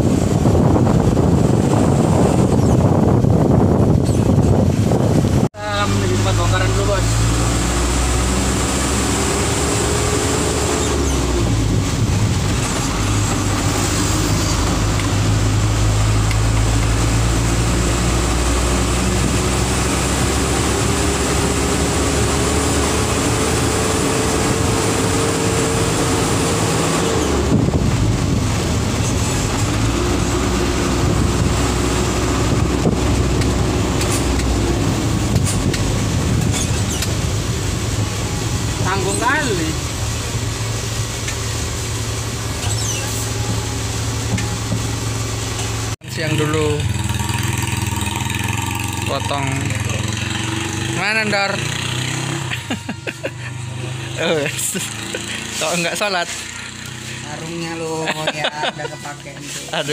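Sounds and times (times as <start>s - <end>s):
diesel engine: 0.0s - 59.9s
road noise: 0.0s - 59.9s.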